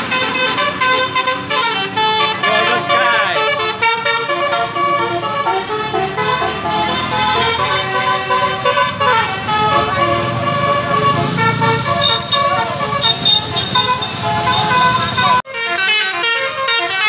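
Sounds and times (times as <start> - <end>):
bus engine rumble: 0.0 - 17.0
musical bus horn tune: 0.0 - 17.0.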